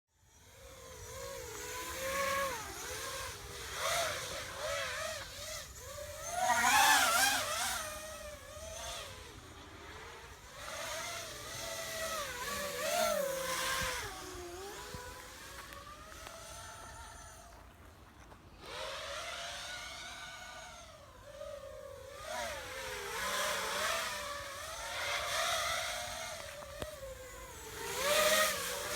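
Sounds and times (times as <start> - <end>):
quadcopter motors whining: 0.2 - 28.9.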